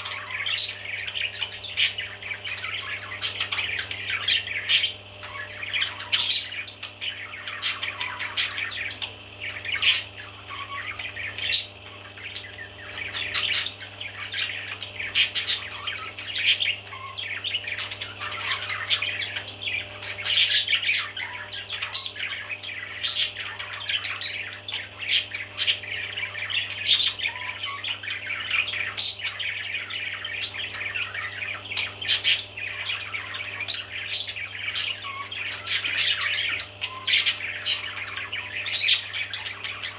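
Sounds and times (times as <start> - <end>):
baby parrots chirping and squawking: 0.0 - 39.9.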